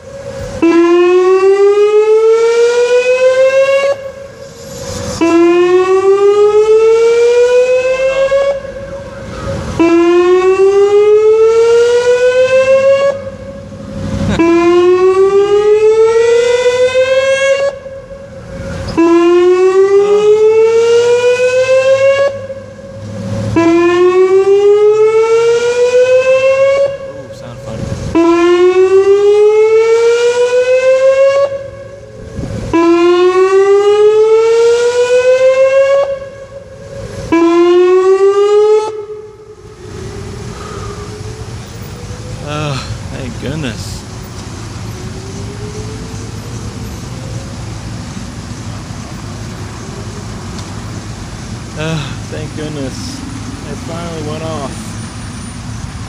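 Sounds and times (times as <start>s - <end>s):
warning siren rising sweep: 0.0s - 51.5s.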